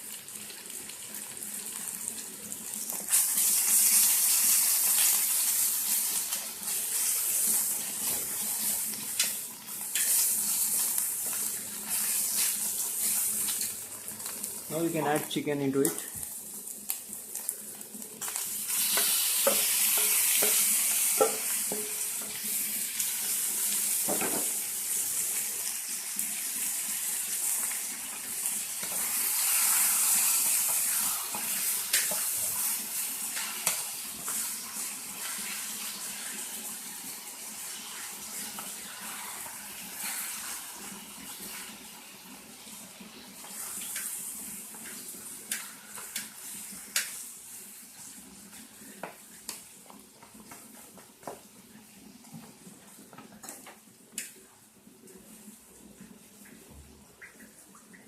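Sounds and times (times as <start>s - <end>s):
chicken sizzling in hot oil: 0.0s - 58.0s
knocks of stirring in pan: 0.0s - 58.0s.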